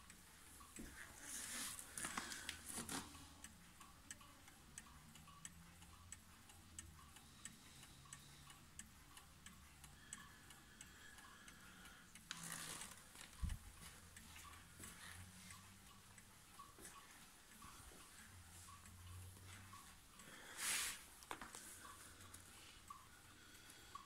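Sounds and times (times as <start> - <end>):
clock ticking faintly: 0.0 - 24.0.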